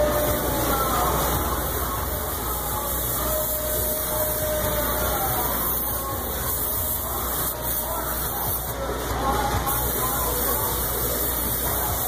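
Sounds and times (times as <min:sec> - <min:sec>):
powder spray gun rushing air: 0:00.0 - 0:12.0.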